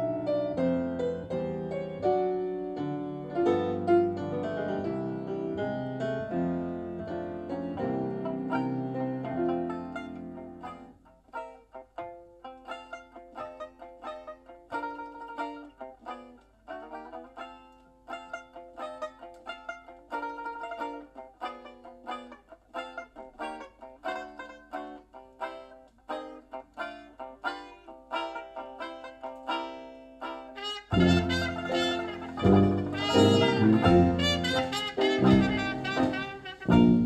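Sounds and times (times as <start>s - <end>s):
plucked string instrument through speakers: 0.0s - 37.0s.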